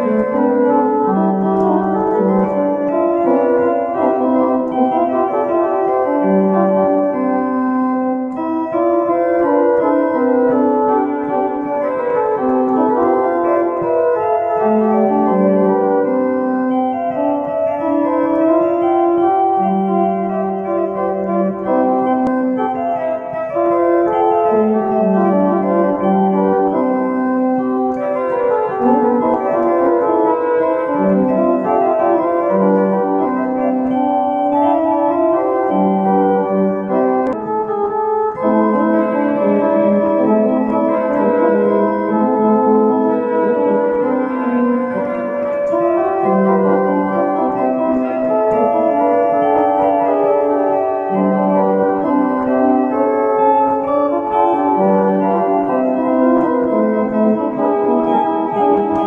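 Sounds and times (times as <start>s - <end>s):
electronic keyboard organ chords: 0.0s - 59.0s.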